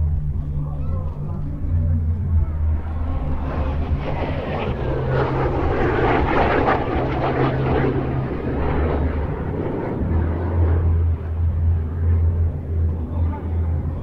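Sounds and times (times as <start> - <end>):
jet flying past: 1.6 - 14.0.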